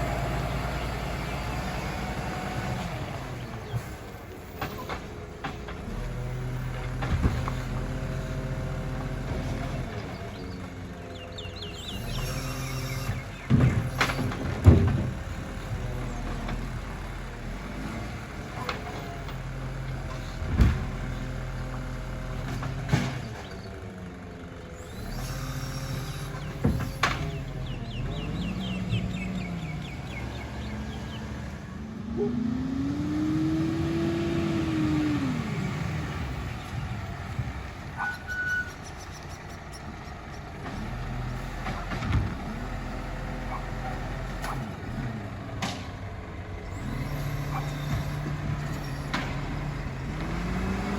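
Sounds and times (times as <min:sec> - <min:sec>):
garbage truck engine running: 0:00.0 - 0:50.9.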